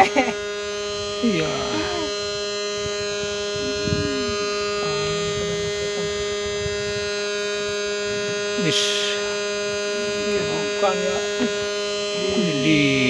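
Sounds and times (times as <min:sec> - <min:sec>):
steady buzzing hum: 0:00.0 - 0:13.0.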